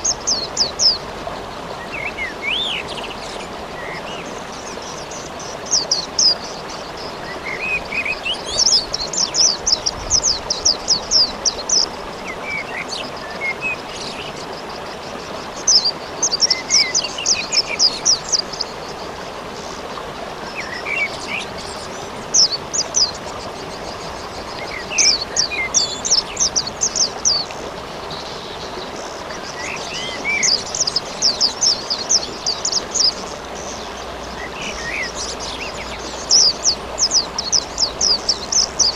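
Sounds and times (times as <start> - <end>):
songbird trilling: 0.0 - 19.2, 20.5 - 38.9
rain hiss: 0.0 - 38.9.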